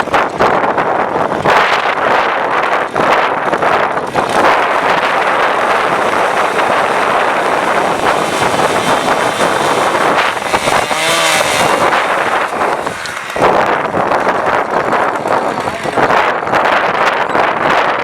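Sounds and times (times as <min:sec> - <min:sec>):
gusting wind on microphone: 0:00.0 - 0:18.0.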